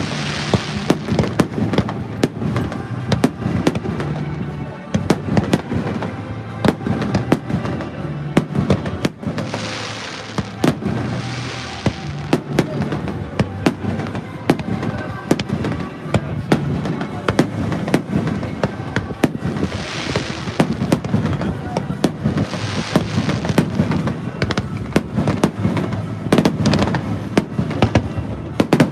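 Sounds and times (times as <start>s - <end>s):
fireworks bangs: 0.0s - 28.9s
fireworks hissing crackle: 0.0s - 28.9s.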